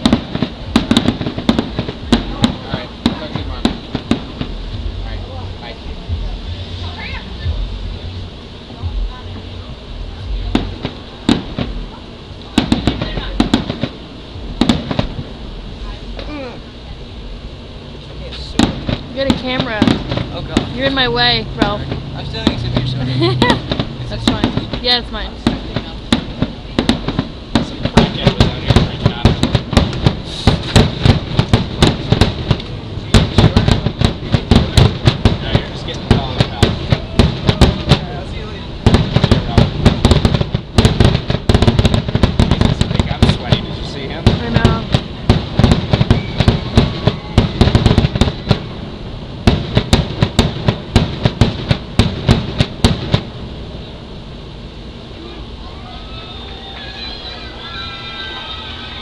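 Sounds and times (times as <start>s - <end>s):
fireworks bangs and cracks: 0.0s - 54.0s.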